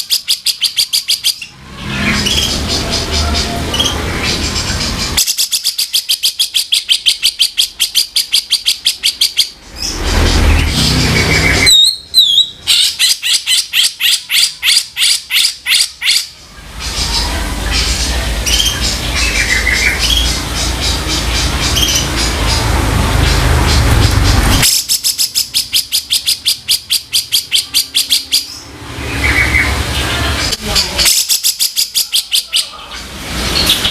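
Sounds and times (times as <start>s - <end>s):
bird chirps: 0.0s - 29.8s
bird harsh rasping calls: 0.0s - 33.9s.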